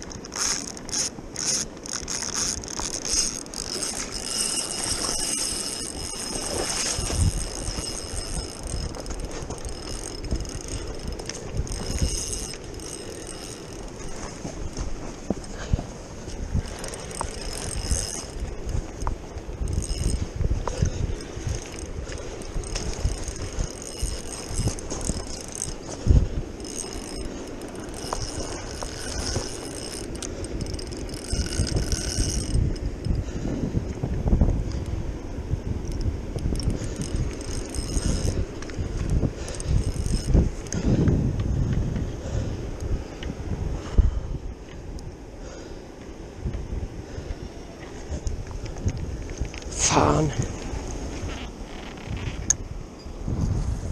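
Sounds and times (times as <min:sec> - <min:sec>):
fishing reel whirring and clicking: 0:00.0 - 0:44.1, 0:48.2 - 0:53.5
wind buffeting microphone: 0:00.0 - 0:53.9.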